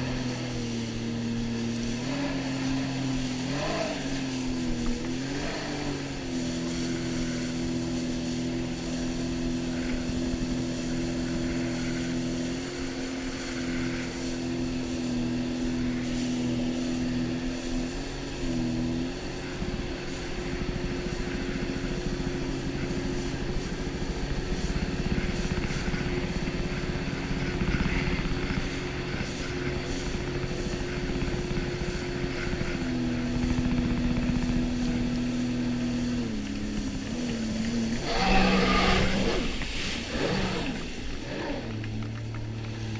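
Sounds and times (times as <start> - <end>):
jet ski engine running: 0.0 - 42.9.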